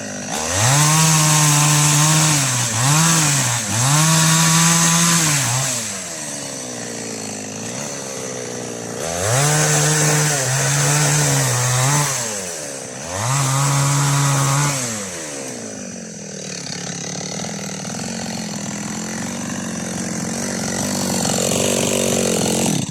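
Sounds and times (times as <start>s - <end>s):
chainsaw revving: 0.0s - 22.9s.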